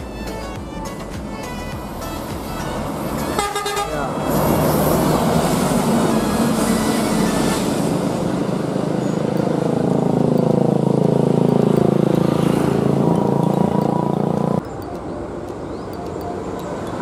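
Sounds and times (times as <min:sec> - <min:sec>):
bus diesel engine: 0:00.0 - 0:17.0.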